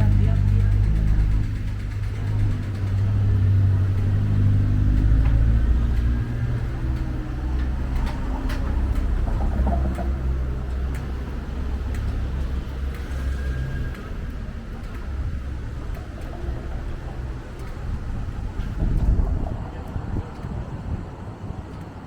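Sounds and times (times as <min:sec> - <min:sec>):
street traffic: 0:00.0 - 0:22.0
vehicle engine running: 0:00.0 - 0:22.0
wind buffeting microphone: 0:00.0 - 0:22.0.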